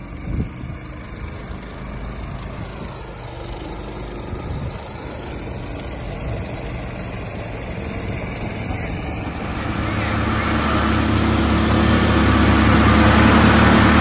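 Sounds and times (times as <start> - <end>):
boat motor drone: 0.0 - 14.0.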